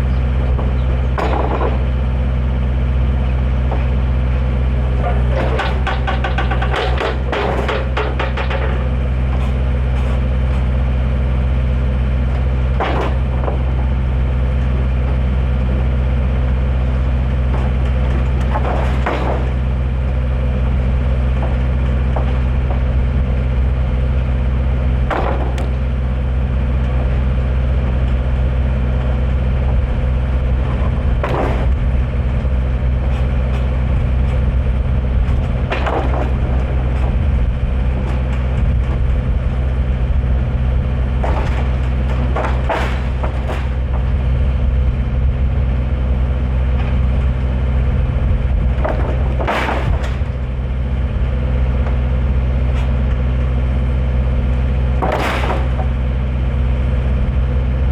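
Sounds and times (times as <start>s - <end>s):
engine running steadily: 0.0s - 57.9s.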